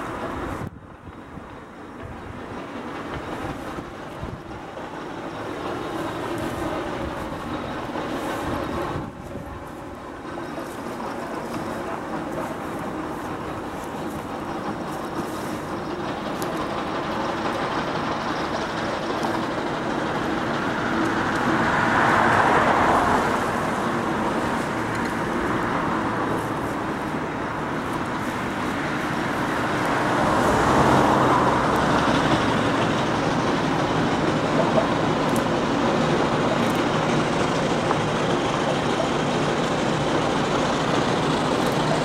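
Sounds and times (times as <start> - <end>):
cars passing by: 0.0 - 42.0
steam roller low rumble: 0.0 - 42.0.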